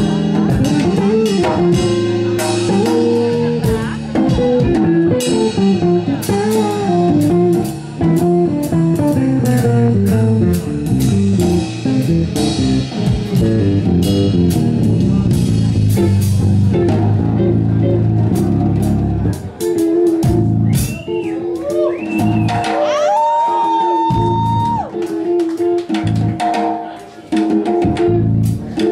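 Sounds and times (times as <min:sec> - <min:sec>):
walking bass line: 0:00.0 - 0:26.4, 0:27.8 - 0:28.9
drums and cymbal hits: 0:00.0 - 0:28.9.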